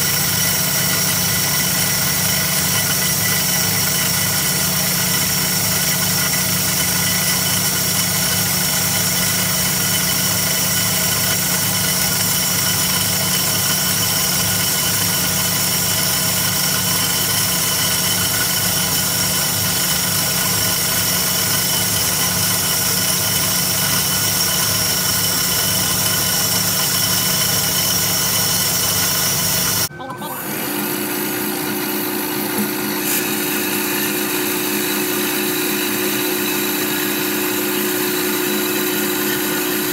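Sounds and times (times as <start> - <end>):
band saw cutting golf ball: 0.0 - 39.9.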